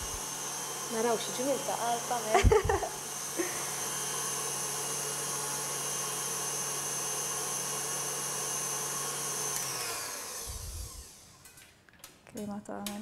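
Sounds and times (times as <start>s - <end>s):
electric stand mixer running: 0.0s - 11.6s.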